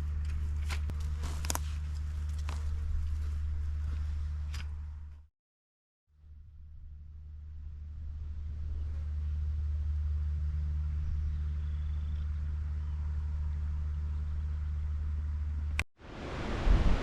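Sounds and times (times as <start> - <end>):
low engine hum: 0.0 - 5.2, 6.1 - 15.8.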